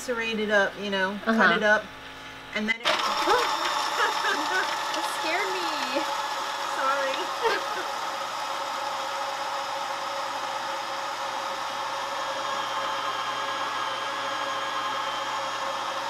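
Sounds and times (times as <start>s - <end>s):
blender motor whirring: 2.8s - 16.0s.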